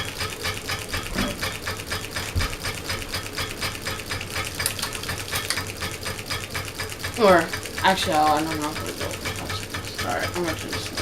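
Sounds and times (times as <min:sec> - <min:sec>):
ceiling fan ticking: 0:00.0 - 0:11.0
fan motor hum: 0:00.0 - 0:11.0.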